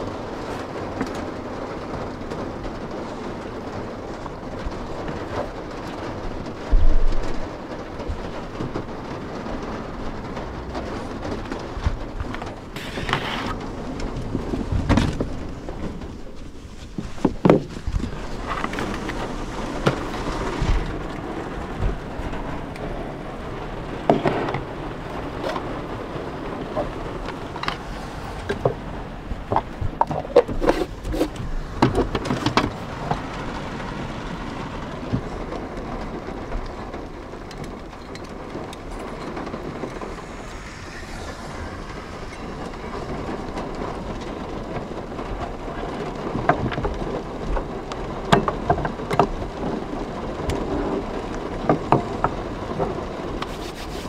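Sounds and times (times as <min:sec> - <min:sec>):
rain drumming on a van roof: 0:00.0 - 0:54.0.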